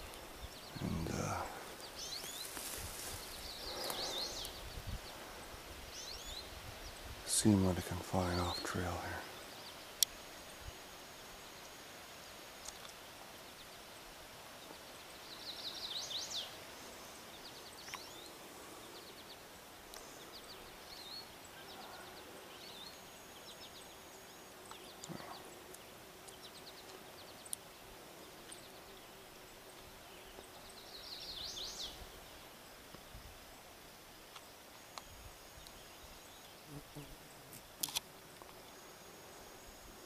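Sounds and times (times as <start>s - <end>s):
faint steady hiss: 0.0s - 40.0s
songbird chirps: 0.0s - 40.0s.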